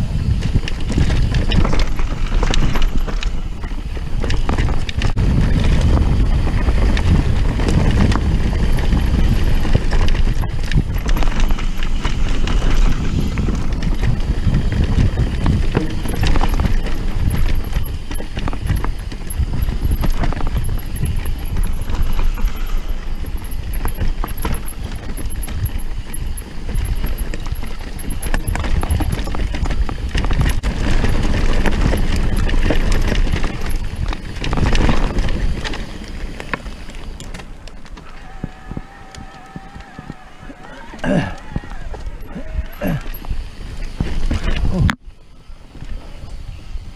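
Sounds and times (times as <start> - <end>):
bike rattling over bumps: 0.0 - 46.9
bike tyres crunching over stones: 0.0 - 46.9
wind rumbling on microphone: 0.0 - 46.9.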